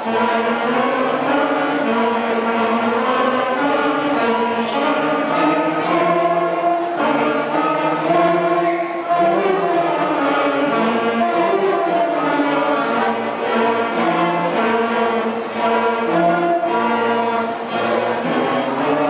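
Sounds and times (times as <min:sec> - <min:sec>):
wind band playing sustained chords: 0:00.0 - 0:19.0.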